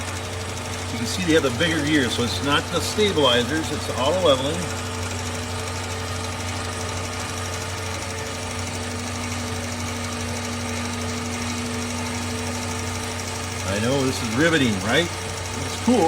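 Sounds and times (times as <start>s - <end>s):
electric jack motors humming: 0.0s - 16.0s.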